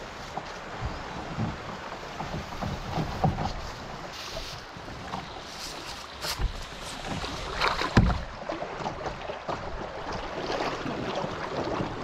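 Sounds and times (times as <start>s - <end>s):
river current rushing and splashing: 0.0s - 12.0s.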